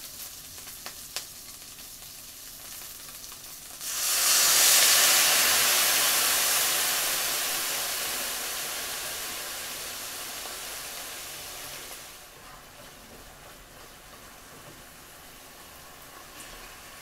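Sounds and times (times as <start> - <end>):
sauce sizzling in a frying pan: 0.0 - 17.0.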